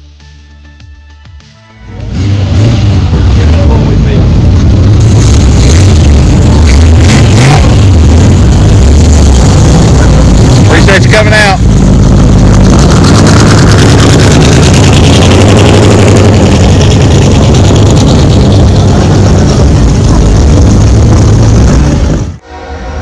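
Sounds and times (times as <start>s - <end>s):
vehicle engine idling: 2.0s - 22.4s.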